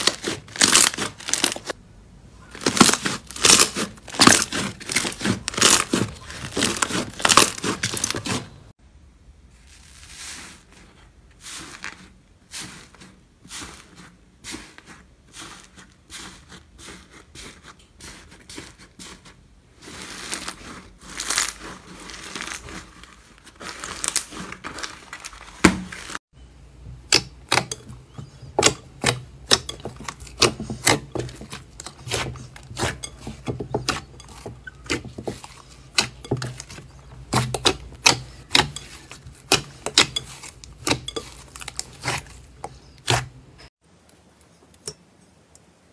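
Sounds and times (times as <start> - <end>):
slime crackling and squelching: 0.0 - 1.8, 2.5 - 8.8, 9.5 - 26.2, 27.0 - 43.7.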